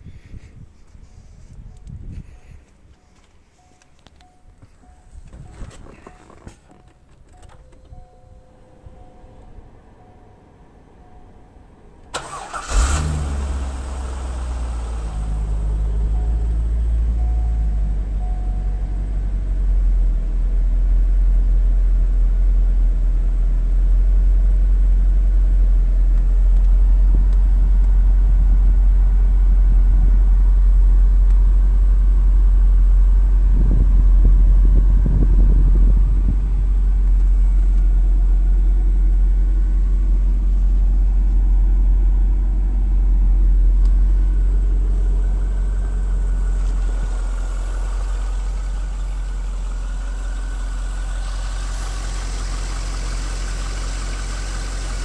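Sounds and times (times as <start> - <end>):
car engine starting and idling: 0.8 - 55.0.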